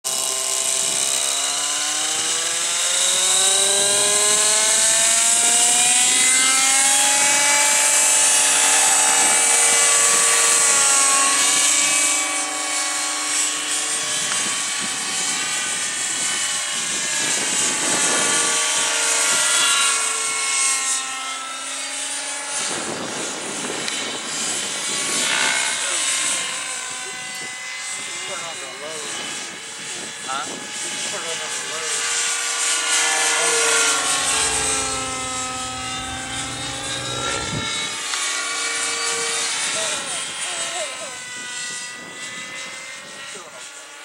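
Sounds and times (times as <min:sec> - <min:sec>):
model helicopter engine and rotors: 0:00.1 - 0:44.0.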